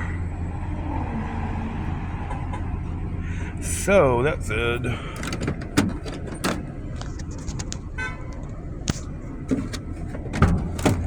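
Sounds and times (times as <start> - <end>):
car hum: 0.0 - 11.0.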